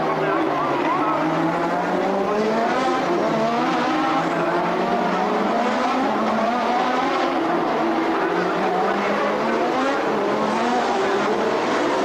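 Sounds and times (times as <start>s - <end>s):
race car engines at speed: 0.0s - 12.0s.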